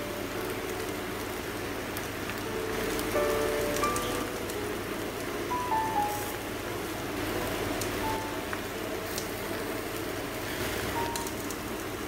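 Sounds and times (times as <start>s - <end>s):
cabbage sizzling in a pan: 0.0s - 12.0s.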